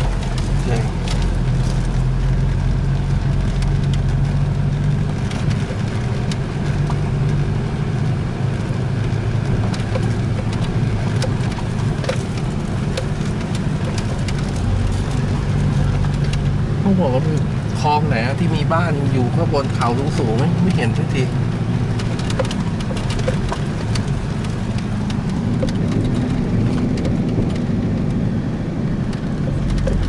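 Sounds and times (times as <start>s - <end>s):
small knocks and rattles: 0.0s - 7.4s, 8.5s - 16.6s, 19.4s - 28.2s, 29.0s - 30.0s
vehicle engine low drone: 0.0s - 30.0s.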